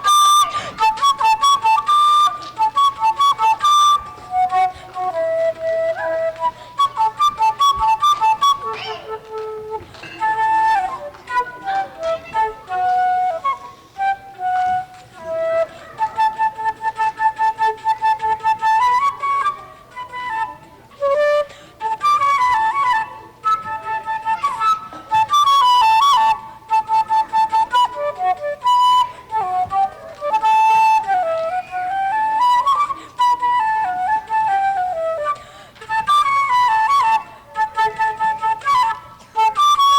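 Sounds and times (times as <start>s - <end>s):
flute solo melody: 0.0s - 39.9s.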